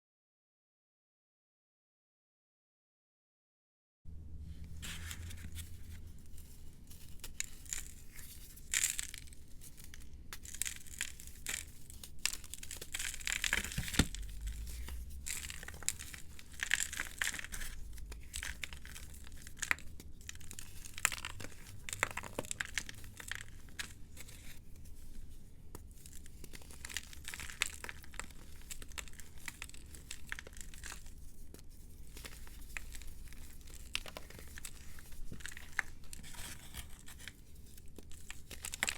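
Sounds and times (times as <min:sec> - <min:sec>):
powder blocks crumbled by hand: 0:04.8 - 0:38.9.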